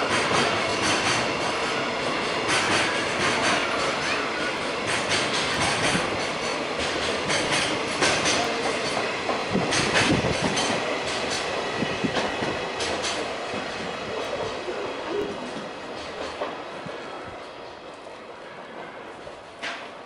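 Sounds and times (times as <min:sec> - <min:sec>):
freight train wheels clacking: 0:00.0 - 0:20.0.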